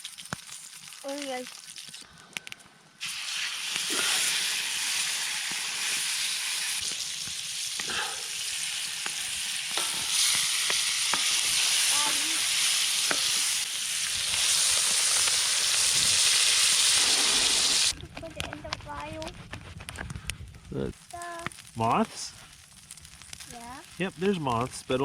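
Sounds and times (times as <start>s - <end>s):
steak sizzling: 0.0s - 2.0s, 3.0s - 18.0s, 20.9s - 25.0s
popping: 0.0s - 25.0s.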